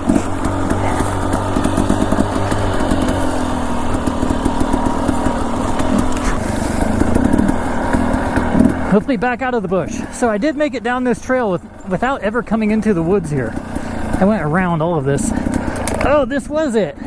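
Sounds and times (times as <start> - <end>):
dirt bike engine: 0.0 - 17.0.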